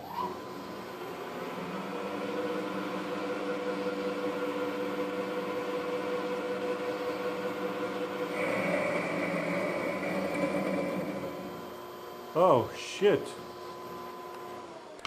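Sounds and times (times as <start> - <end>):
lathe humming with whine: 0.0 - 15.0.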